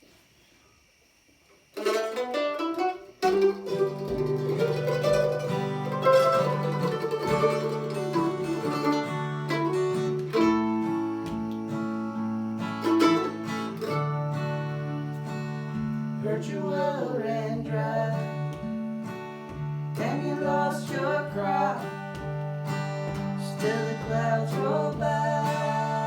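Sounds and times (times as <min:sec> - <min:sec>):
acoustic guitar picking: 0:01.8 - 0:26.0.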